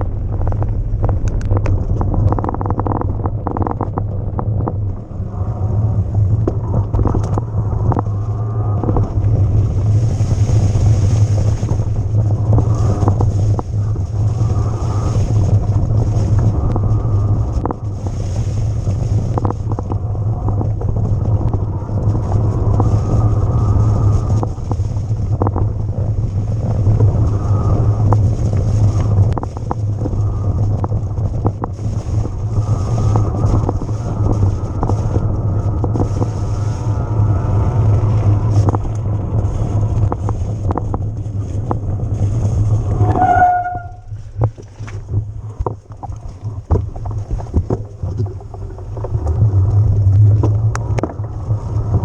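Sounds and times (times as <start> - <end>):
wind and tyre rumble: 0.0 - 52.0.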